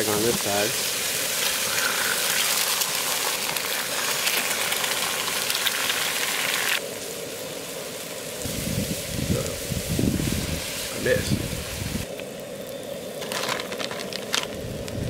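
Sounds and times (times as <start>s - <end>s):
eggs and meat sizzling in oil: 0.0s - 15.0s.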